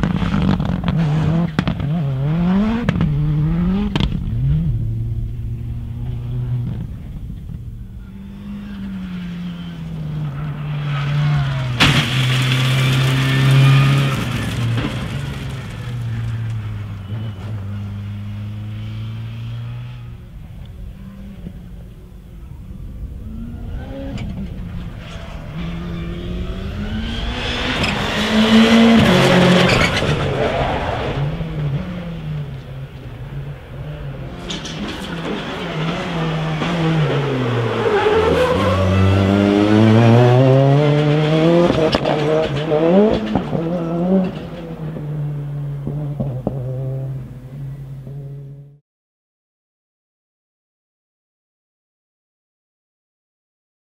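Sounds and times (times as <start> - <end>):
race cars accelerating and passing: 0.0 - 48.8.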